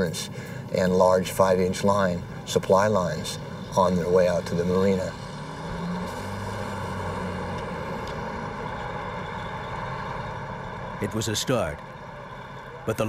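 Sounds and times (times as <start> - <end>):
fire engine engine droning: 0.0 - 13.0.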